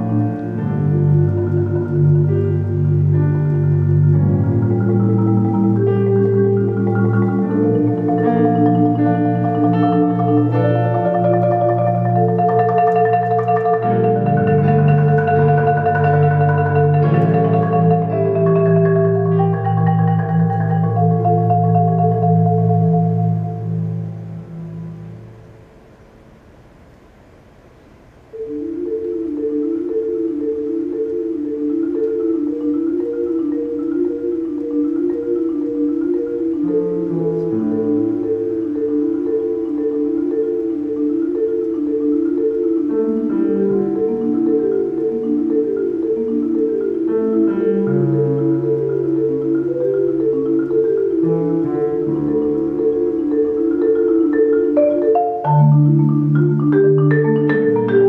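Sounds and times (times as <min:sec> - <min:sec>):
marimba playing fast pattern: 0:00.0 - 0:25.5, 0:28.4 - 0:58.0
piano accompaniment: 0:00.0 - 0:26.2, 0:28.3 - 0:58.0.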